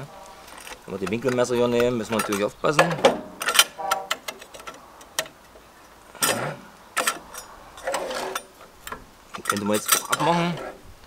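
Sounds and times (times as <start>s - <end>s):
metal clicks and knocks: 0.6s - 10.3s.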